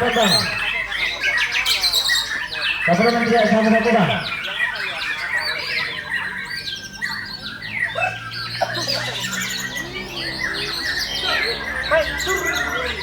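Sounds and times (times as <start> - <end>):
birds singing whistles and chirps: 0.0 - 13.0.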